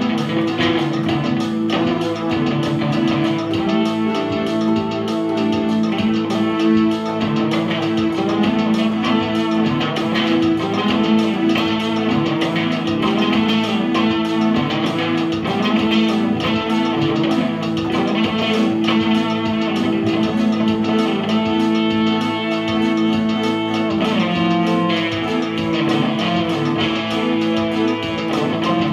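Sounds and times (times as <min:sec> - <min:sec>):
electric guitar strummed: 0:00.0 - 0:28.9
electronic keyboard chords: 0:00.0 - 0:28.9.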